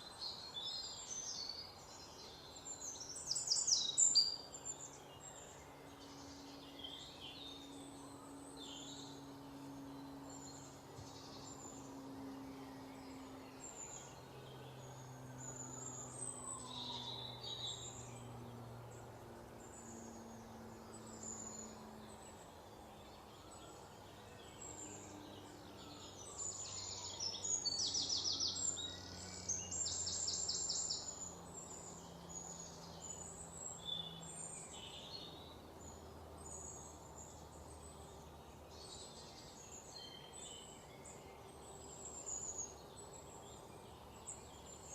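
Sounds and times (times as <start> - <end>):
songbirds chirping: 0.0 - 44.9
soft low drone: 4.3 - 44.9.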